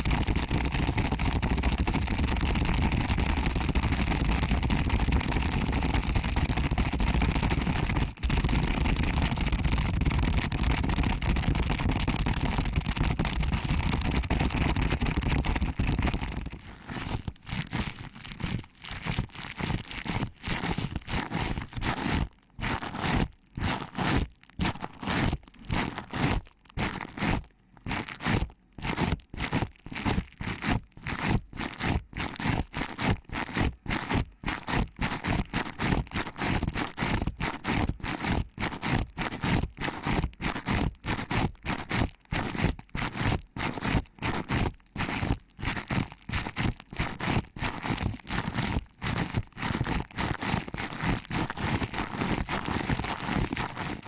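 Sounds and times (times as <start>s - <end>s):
hands rubbing microphone: 0.0s - 54.0s.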